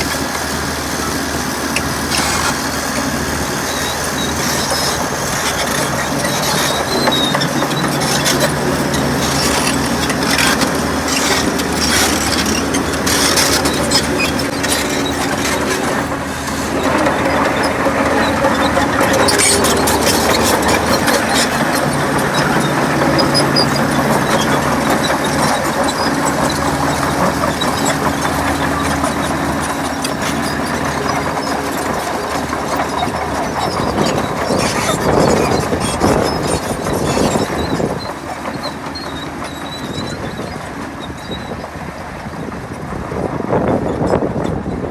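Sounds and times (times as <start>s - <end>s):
diesel machinery engine drone: 0.0s - 44.9s
machinery squeaks: 0.0s - 44.9s.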